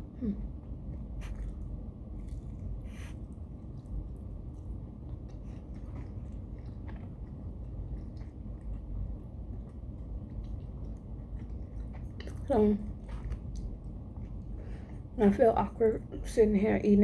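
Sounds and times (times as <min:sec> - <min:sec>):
steady low hum: 0:00.0 - 0:17.0
person chewing food: 0:00.1 - 0:15.2.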